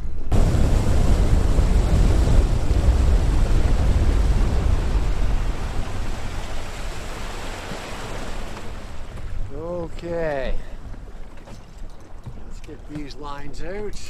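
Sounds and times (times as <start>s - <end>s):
water rushing around boat: 0.0s - 14.0s
wind buffeting microphone: 0.0s - 14.0s.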